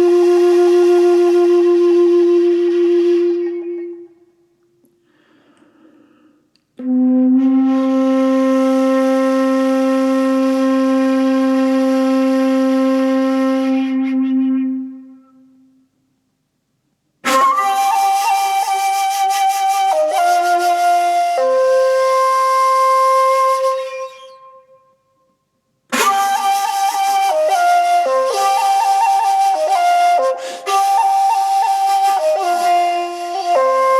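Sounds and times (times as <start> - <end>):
solo wind instrument melody: 0.0 - 4.4, 6.8 - 15.8, 17.2 - 25.1, 25.9 - 33.9.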